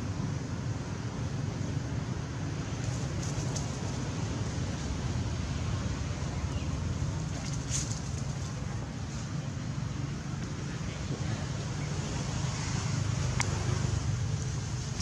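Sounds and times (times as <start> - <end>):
low rumble and hiss: 0.0 - 15.0.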